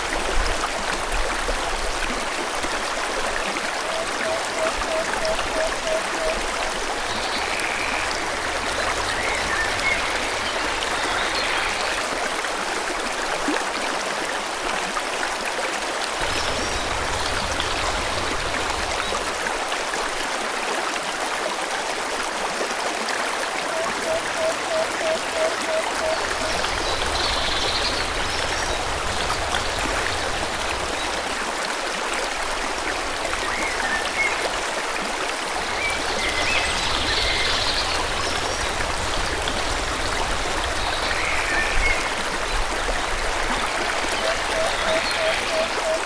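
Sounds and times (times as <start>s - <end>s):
stream flowing over rocks: 0.0s - 46.0s.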